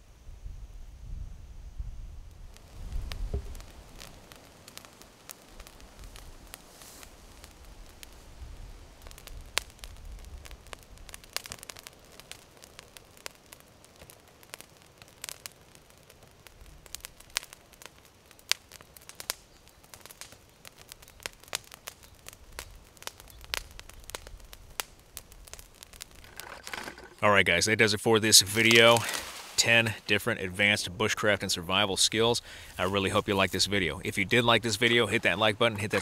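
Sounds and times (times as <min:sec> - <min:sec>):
fire crackling and popping: 0:01.8 - 0:36.0.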